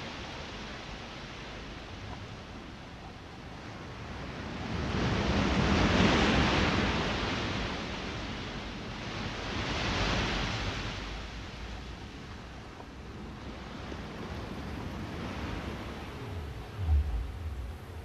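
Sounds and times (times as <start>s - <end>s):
ocean waves washing in: 0.0s - 18.0s.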